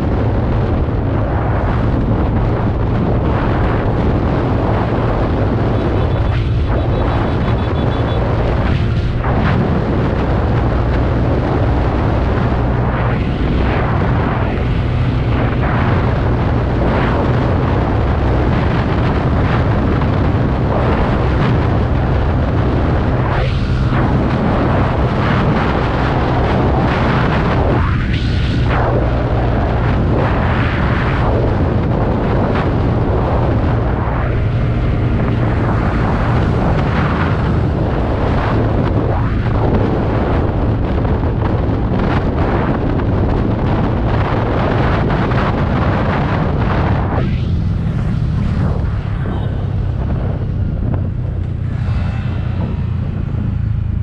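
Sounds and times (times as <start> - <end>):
scooter road noise: 0.0 - 42.4, 43.0 - 54.0
wind buffeting microphone: 0.0 - 54.0.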